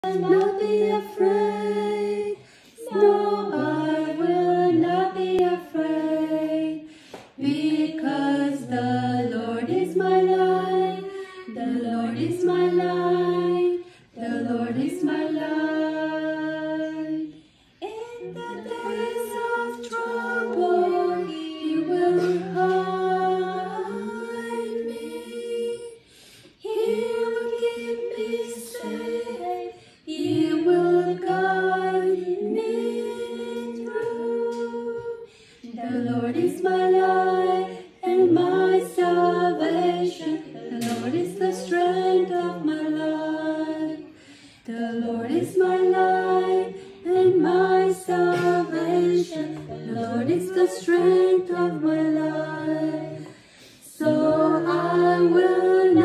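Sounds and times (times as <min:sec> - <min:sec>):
women singing unaccompanied: 0:00.0 - 0:56.0.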